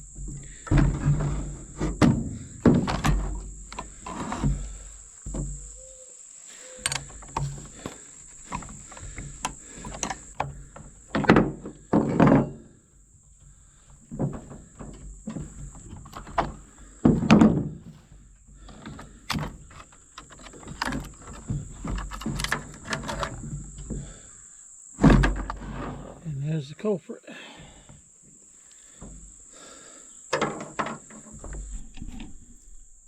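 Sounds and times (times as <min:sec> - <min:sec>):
insects buzzing: 0:00.0 - 0:33.0
chainsaw being handled clunks: 0:00.1 - 0:05.7, 0:06.6 - 0:12.8, 0:13.4 - 0:24.3, 0:28.7 - 0:32.6.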